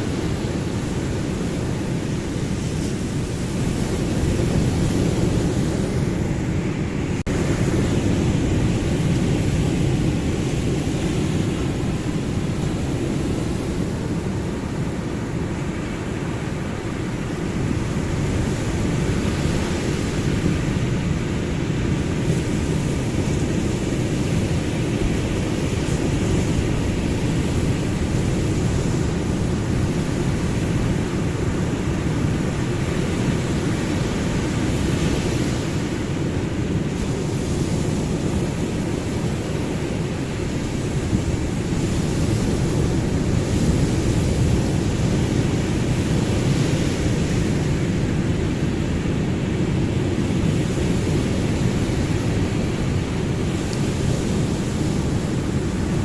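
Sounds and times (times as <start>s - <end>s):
rumbling wash of waves: 0.0s - 56.0s.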